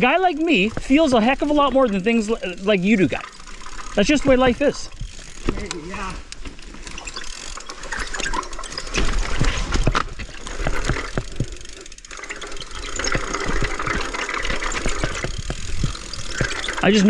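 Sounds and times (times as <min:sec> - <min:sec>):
bike knocking and rattling: 0:00.0 - 0:17.0
bike tyres on dirt trail: 0:00.0 - 0:17.0.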